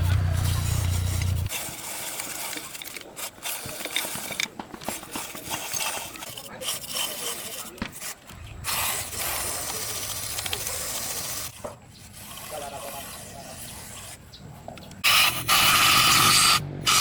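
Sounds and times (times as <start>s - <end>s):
hand scraping and rubbing: 0.0s - 16.3s.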